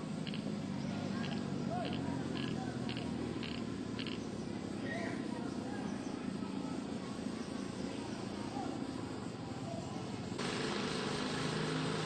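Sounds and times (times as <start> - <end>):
engine hum: 0.0 - 12.0
outdoor background noise: 0.0 - 12.0.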